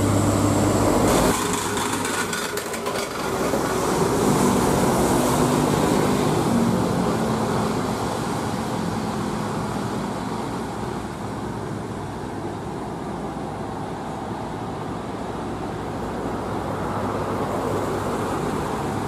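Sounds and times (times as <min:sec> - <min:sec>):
truck diesel engine drone: 0:00.0 - 0:19.0
tyres on wet road: 0:00.0 - 0:19.0.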